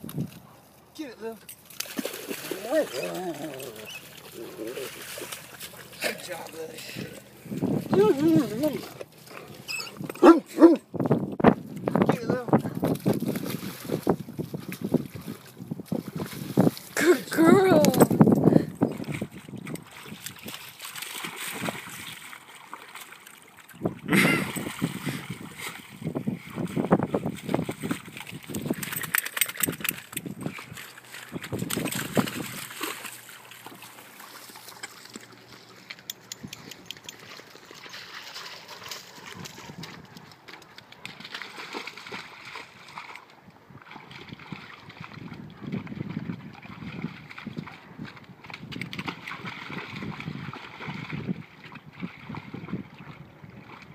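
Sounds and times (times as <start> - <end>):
dog splashing in water: 1.6 - 10.7, 12.8 - 18.2, 18.8 - 53.9.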